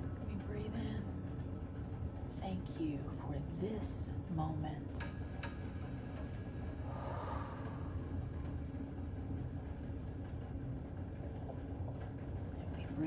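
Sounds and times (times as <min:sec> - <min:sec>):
low rumbling ambient soundscape: 0:00.0 - 0:13.0.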